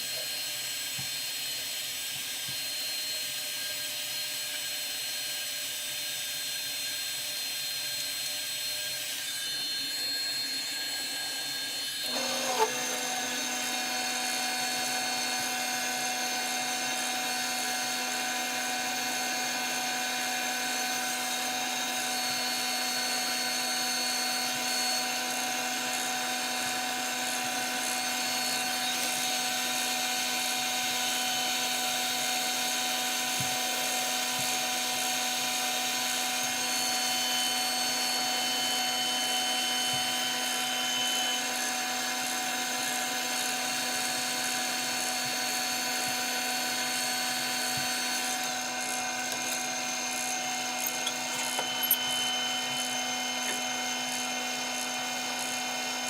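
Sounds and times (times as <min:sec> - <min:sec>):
lathe motor whining: 0:06.9 - 0:56.0.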